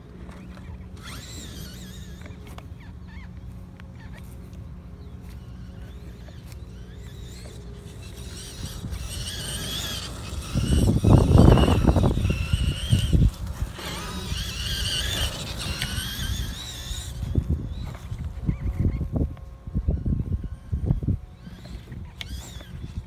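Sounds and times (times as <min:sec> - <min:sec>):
rc truck motor whine: 0:00.0 - 0:23.0.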